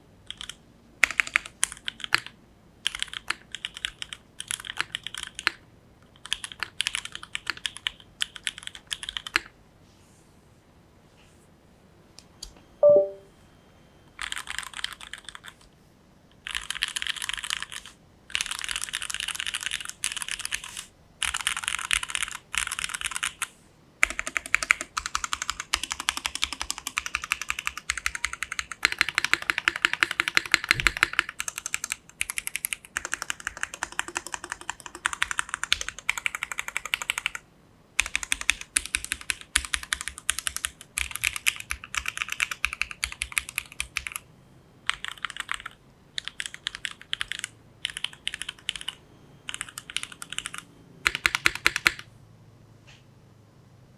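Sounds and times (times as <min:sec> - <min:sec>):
mechanical keyboard typing: 0:00.3 - 0:09.5, 0:12.8 - 0:13.3, 0:14.2 - 0:15.6, 0:16.4 - 0:37.4, 0:38.0 - 0:44.2, 0:44.9 - 0:52.1.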